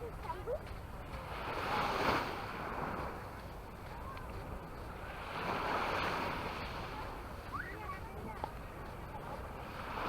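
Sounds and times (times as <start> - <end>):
waves washing on a beach: 0.0 - 10.0.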